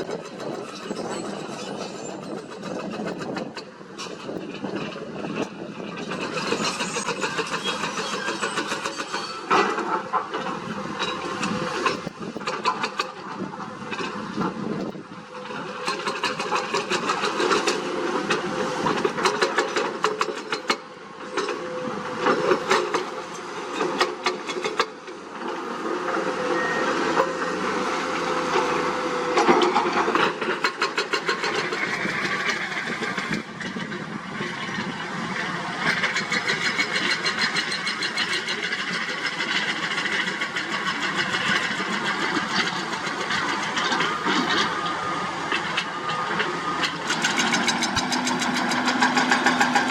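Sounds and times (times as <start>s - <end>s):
heavy machine diesel engine: 0.0s - 49.9s.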